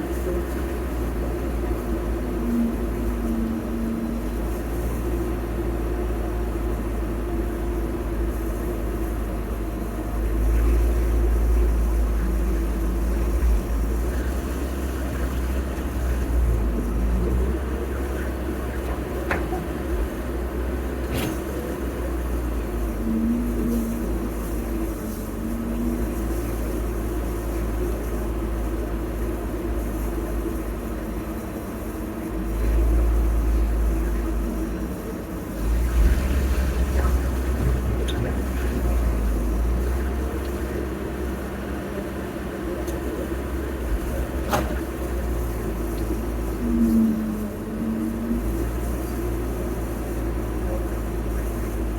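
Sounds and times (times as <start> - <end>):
heavy diesel machinery rumbling: 0.0 - 51.9.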